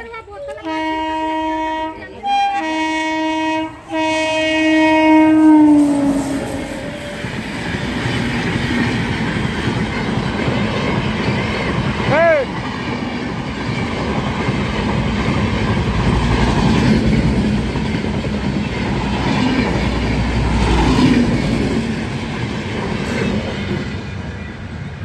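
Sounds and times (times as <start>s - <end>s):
train wheels rumbling on rails: 3.8s - 25.0s.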